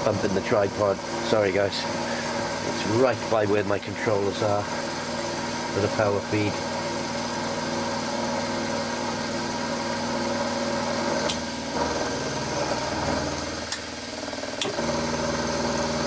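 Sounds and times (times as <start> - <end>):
milling machine cutting metal: 0.0 - 16.0.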